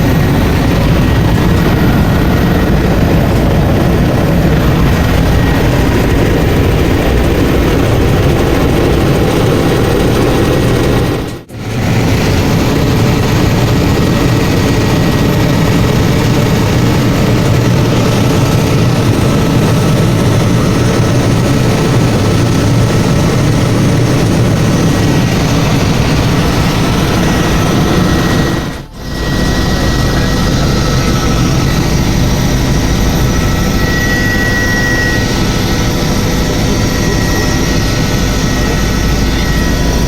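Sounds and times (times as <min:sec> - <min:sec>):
helicopter engine and rotor noise: 0:00.0 - 0:40.0.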